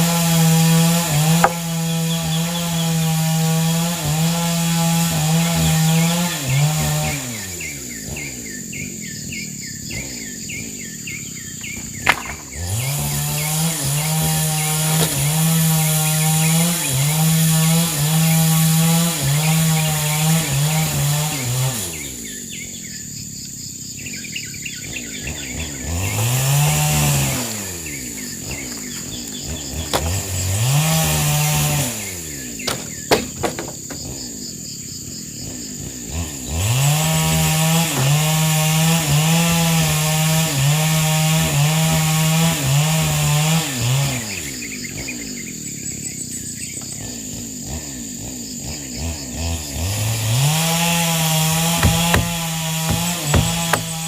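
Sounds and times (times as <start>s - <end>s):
chainsaw revving and cutting wood: 0.0s - 54.0s.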